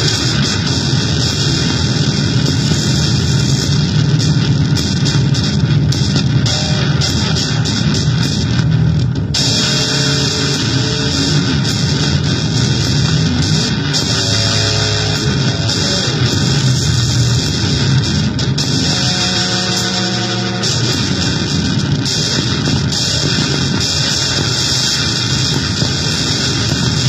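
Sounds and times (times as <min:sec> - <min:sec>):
distorted buzzing noise: 0:00.0 - 0:27.0.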